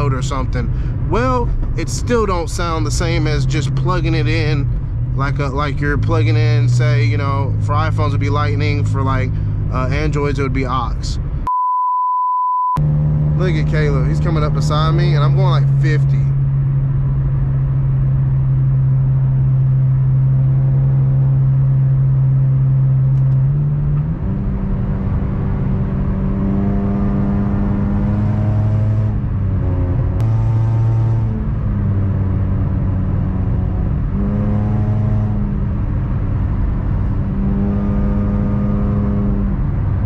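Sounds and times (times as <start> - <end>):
car engine droning: 0.0 - 11.5, 12.8 - 40.0
road noise: 0.0 - 11.5, 12.8 - 40.0.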